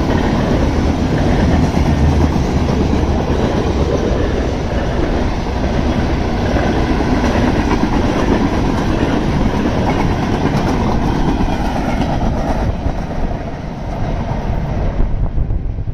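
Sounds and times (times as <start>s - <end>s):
train wheels rumbling on rail: 0.0s - 15.9s.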